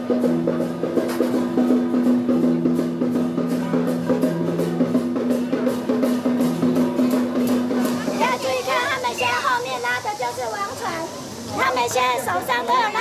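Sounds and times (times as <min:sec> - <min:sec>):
drums and cymbals beat: 0:00.0 - 0:13.0.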